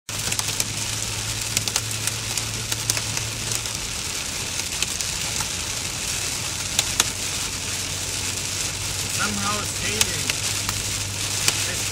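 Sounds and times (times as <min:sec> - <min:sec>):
car hum on road: 0:00.1 - 0:11.9
heavy rain on car windshield: 0:00.1 - 0:11.9.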